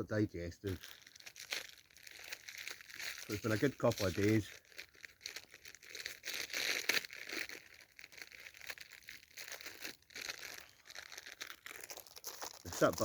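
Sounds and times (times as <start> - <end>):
plastic wrapper crinkling: 0.6 - 13.0.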